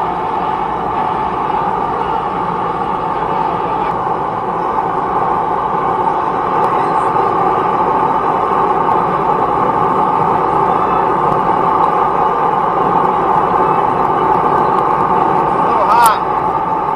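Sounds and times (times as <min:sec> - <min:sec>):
forge rushing noise: 0:00.0 - 0:16.9.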